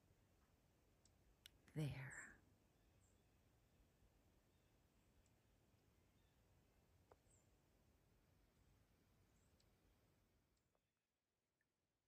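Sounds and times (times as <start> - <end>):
faint background hiss: 0.0 - 10.8.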